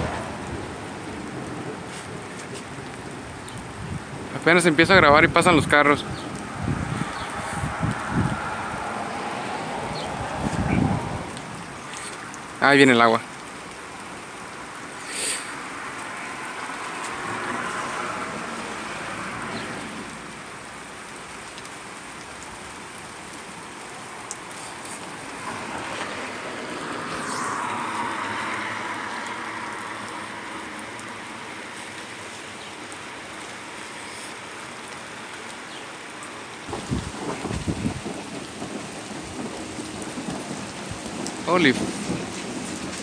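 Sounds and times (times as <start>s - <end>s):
cars hissing by on wet road: 0.0s - 43.0s
steady rain: 0.0s - 43.0s.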